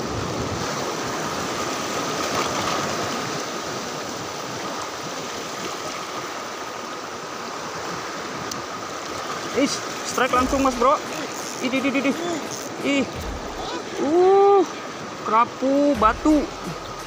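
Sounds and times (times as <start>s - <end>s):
surf washing over rocks: 0.0s - 17.0s.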